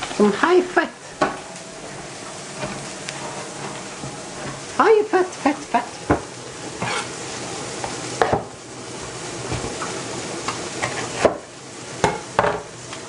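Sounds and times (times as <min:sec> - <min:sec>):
meatballs sizzling in a frying pan: 0:00.0 - 0:13.0.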